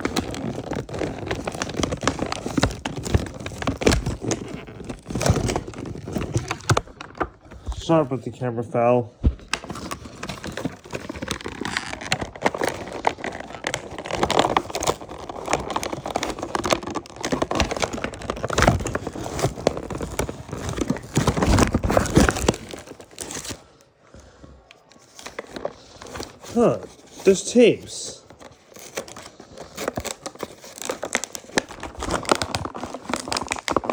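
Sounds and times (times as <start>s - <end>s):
packaging tearing: 0.0s - 8.2s, 9.2s - 23.8s, 24.7s - 33.9s
packaging crinkling and rustling: 0.0s - 33.9s.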